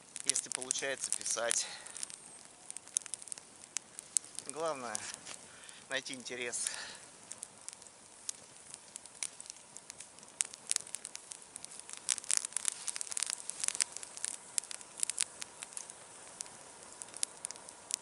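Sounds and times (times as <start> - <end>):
campfire crackling: 0.0 - 18.0
faint hiss: 0.0 - 18.0.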